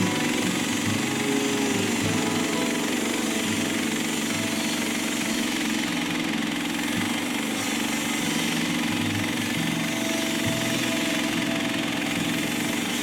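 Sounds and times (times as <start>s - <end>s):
sawmill gas engine running: 0.0s - 13.0s.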